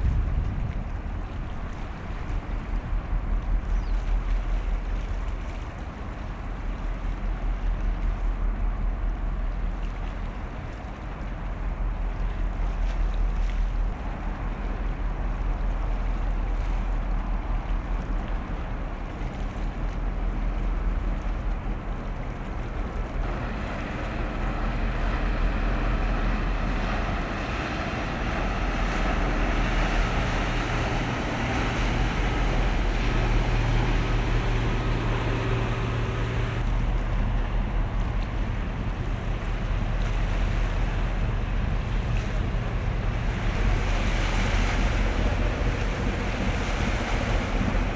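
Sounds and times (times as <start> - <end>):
boat engines droning: 0.0 - 47.9
water noise: 0.0 - 47.9
wind rumble on microphone: 0.0 - 47.9.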